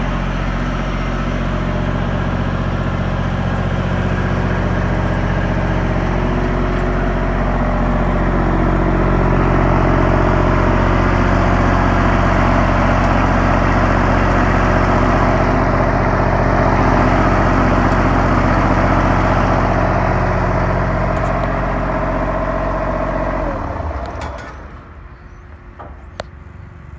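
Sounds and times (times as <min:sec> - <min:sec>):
excavator engine running: 0:00.0 - 0:26.9.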